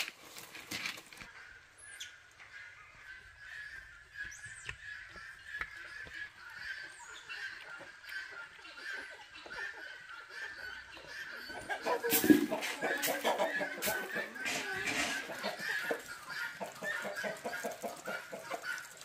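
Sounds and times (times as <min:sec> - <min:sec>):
chickens calling: 0:00.0 - 0:19.0.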